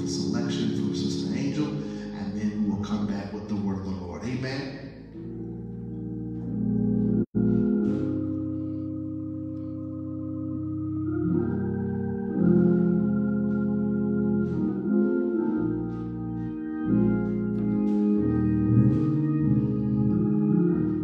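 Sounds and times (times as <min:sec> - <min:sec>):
organ playing held chords: 0:00.0 - 0:21.0.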